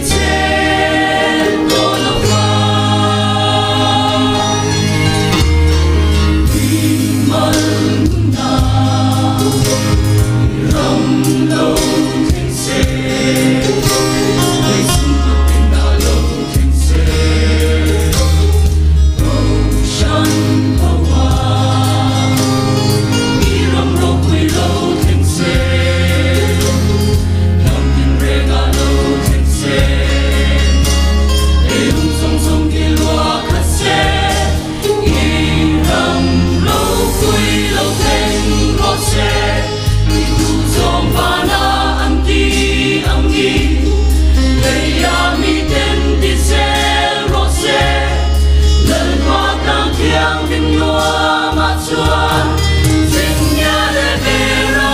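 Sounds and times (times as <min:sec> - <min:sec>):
deep steady bass: 0:00.0 - 0:54.9
mixed choir singing: 0:00.0 - 0:54.9.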